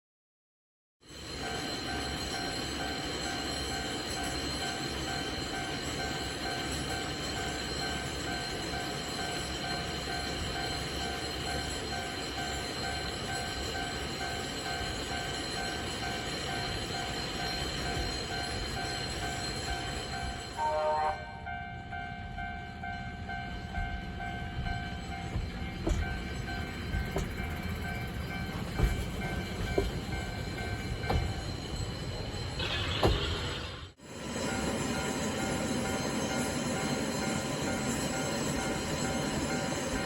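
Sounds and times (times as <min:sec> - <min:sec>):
level crossing warning bell: 0:01.0 - 0:33.2, 0:34.0 - 0:40.0
cable car running noise: 0:01.1 - 0:40.0.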